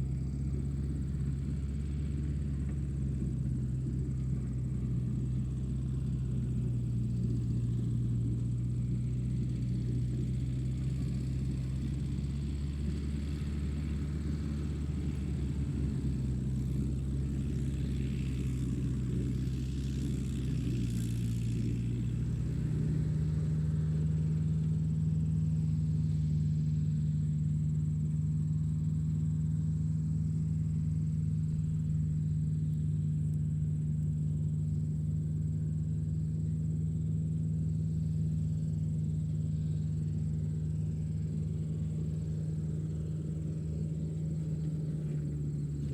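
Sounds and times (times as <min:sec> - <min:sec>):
constant low hum: 0:00.0 - 0:45.9
tractor engine running: 0:00.0 - 0:45.9.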